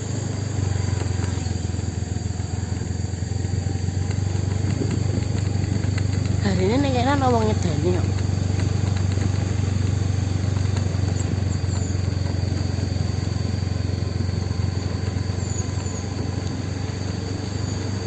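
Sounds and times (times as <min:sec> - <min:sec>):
road and wind noise: 0:00.0 - 0:18.0
vehicle engine drone: 0:00.0 - 0:18.0.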